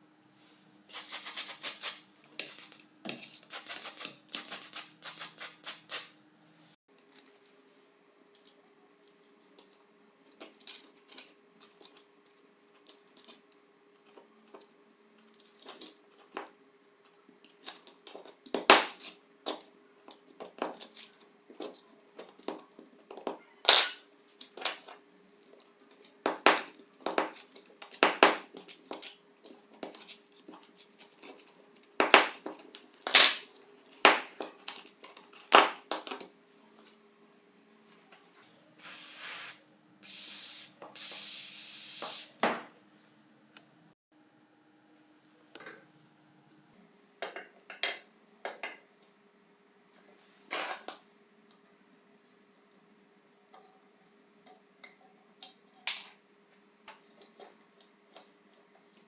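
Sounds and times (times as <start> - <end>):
faint steady hum: 6.1 - 59.0.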